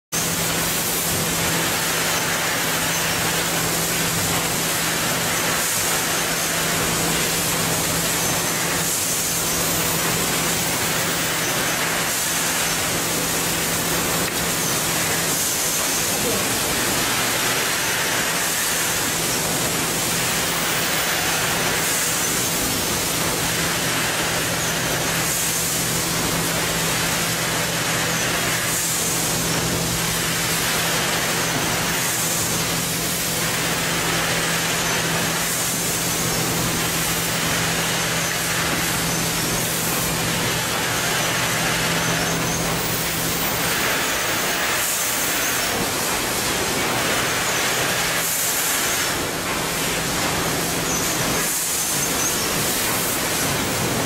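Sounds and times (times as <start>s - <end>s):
loud mechanical hiss: 0.2s - 54.0s.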